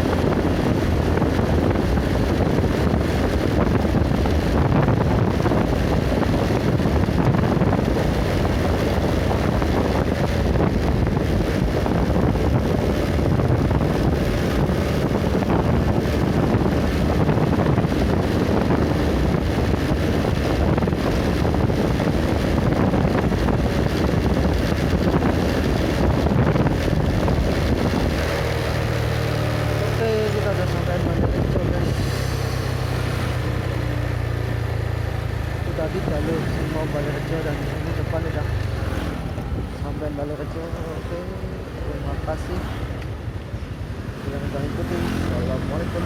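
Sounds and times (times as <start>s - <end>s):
moving vehicle road noise: 0.0s - 46.0s
wind buffeting microphone: 0.0s - 46.0s.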